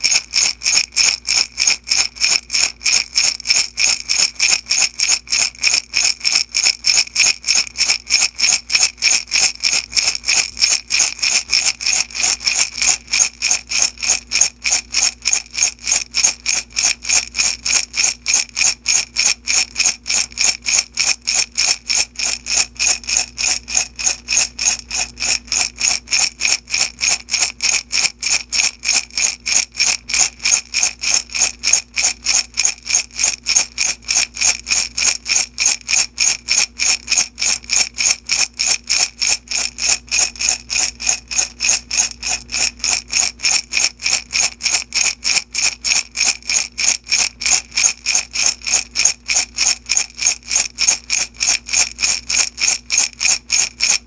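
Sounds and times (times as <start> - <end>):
beads rattling in glass jar: 0.0 - 54.0.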